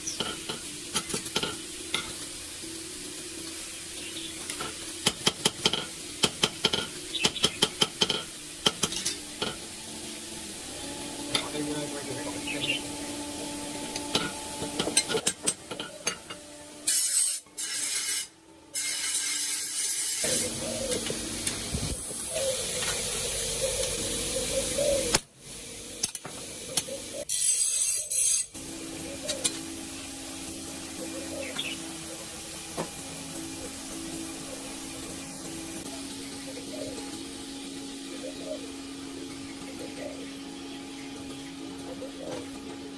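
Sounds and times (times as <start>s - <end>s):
forge blower humming: 0.0s - 17.6s, 20.1s - 27.2s, 28.6s - 42.9s
hot steel hissing in water: 0.0s - 42.2s.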